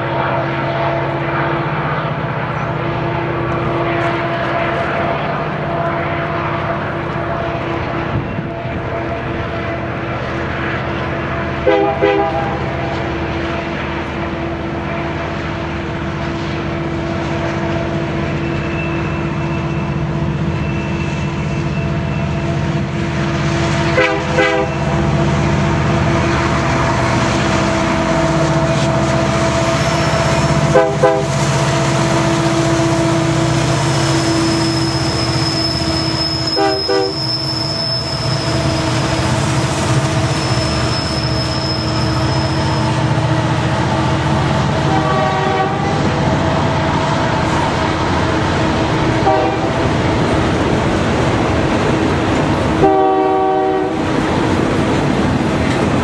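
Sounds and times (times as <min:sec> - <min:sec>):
diesel locomotive engine drone: 0:00.0 - 0:56.0
train clattering: 0:01.4 - 0:56.0.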